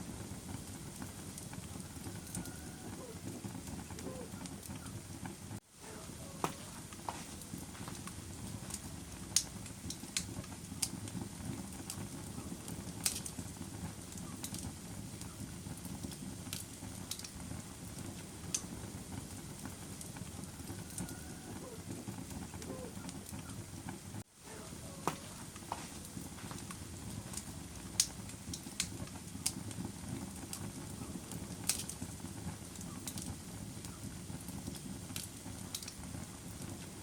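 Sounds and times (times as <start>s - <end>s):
fire crackling and popping: 0.0s - 37.0s
fire flames rumbling: 0.0s - 37.0s.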